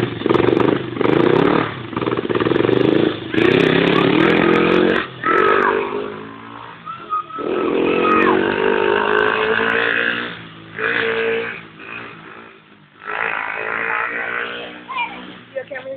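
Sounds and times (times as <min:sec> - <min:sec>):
dirt bike engine revving: 0:00.0 - 0:15.8.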